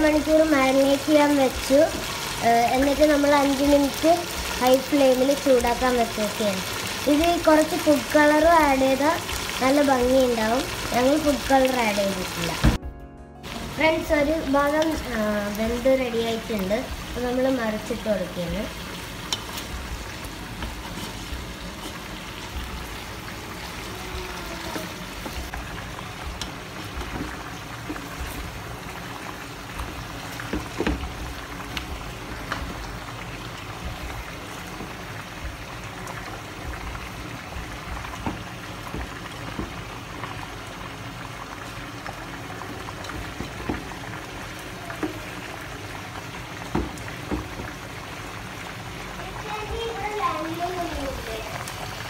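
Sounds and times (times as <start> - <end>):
juices bubbling and sizzling: 0.0 - 12.8, 13.4 - 52.0.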